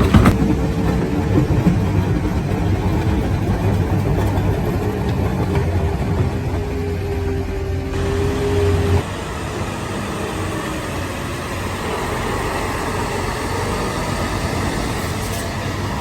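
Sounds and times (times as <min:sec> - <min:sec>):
construction machinery din: 0:00.0 - 0:16.0
engine hum: 0:00.0 - 0:16.0.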